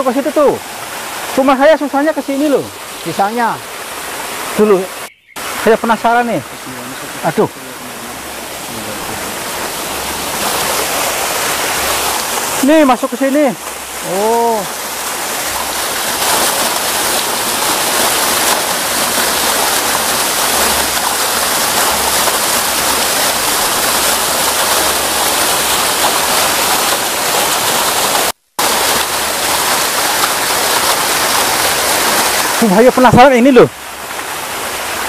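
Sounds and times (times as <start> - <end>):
small waterfall splashing: 0.0 - 35.0.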